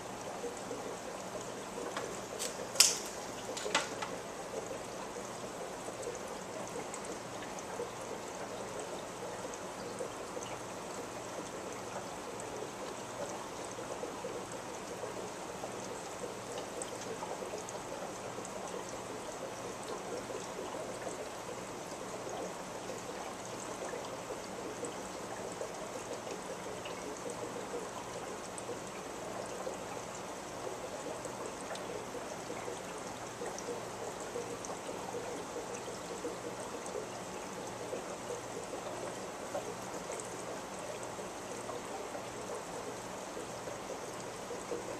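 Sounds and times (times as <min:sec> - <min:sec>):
trickling bubbling water: 0:00.0 - 0:44.9.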